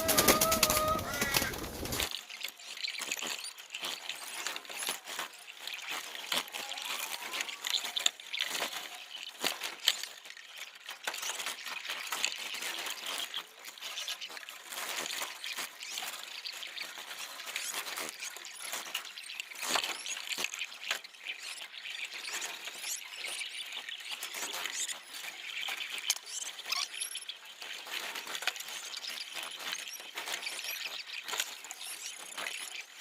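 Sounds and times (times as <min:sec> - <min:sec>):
rustling with light clicks: 0:00.1 - 0:33.0.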